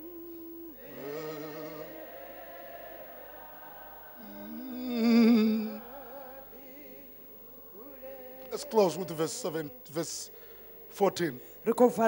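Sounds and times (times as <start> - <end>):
person singing slow song: 0.0 - 3.3, 3.9 - 10.9.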